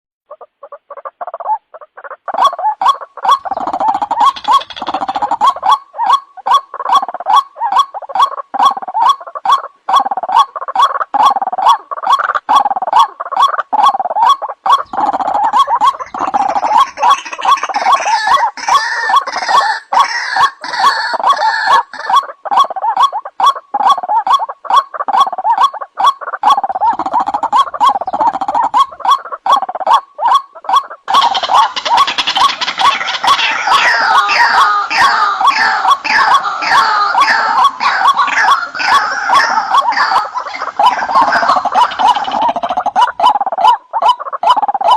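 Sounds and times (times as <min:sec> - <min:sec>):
waterhen harsh gargling calls: 0:00.3 - 0:44.9
higher rougher bird calls: 0:02.2 - 0:44.9.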